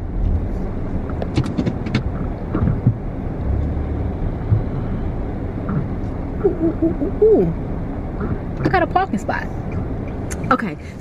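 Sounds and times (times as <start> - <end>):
car engine rumble and road noise: 0.0 - 11.0.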